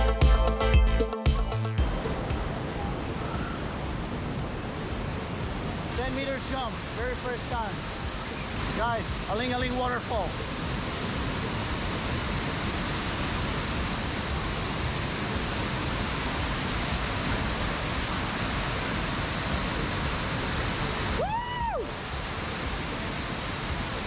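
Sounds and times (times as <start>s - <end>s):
waterfall roaring: 1.9s - 24.0s.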